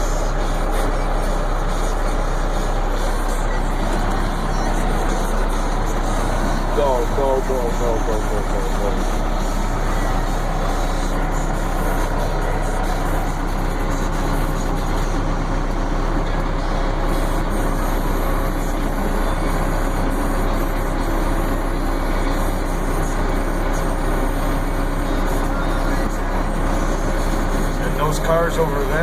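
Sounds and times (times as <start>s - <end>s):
truck engine humming: 0.0s - 29.0s.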